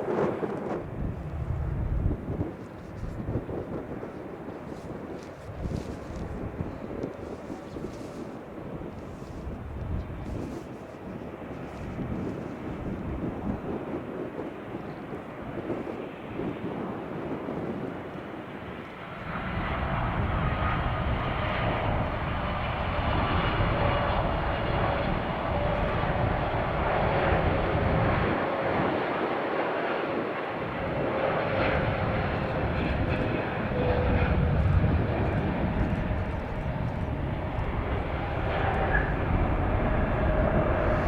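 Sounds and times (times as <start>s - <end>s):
jet engines rumbling: 0.0s - 41.0s
wind buffeting microphone: 0.0s - 41.0s.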